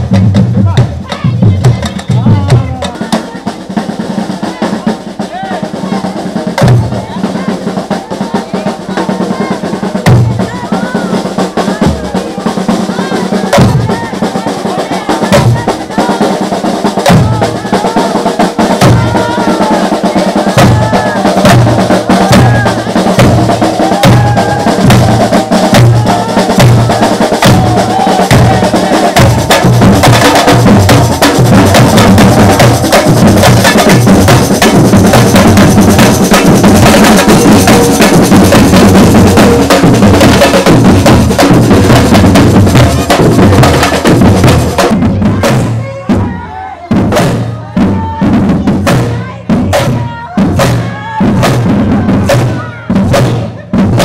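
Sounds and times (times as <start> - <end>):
marching drummers playing: 0.0 - 54.0
parade voices: 0.0 - 54.0.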